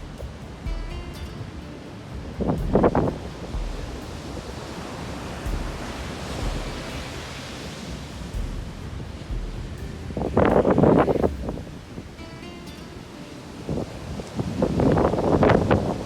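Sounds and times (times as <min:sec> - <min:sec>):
rough sea surf breaking: 0:00.0 - 0:16.0
wind buffeting microphone: 0:00.0 - 0:16.0.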